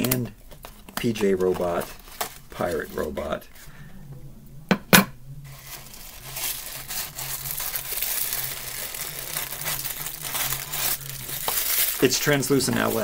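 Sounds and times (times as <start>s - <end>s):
packaging crinkling: 0.0s - 3.4s, 5.5s - 13.0s.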